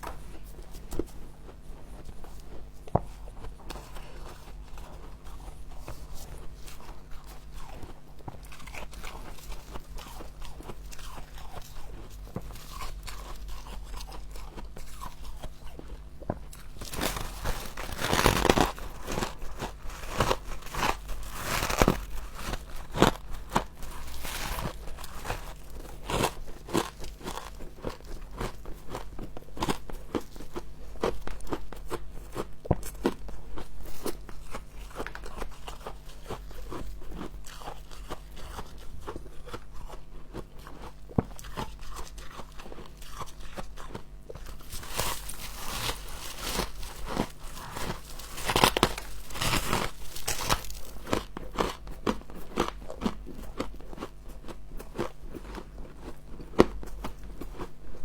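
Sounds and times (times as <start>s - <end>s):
chewing crunchy frost: 0.0s - 58.0s.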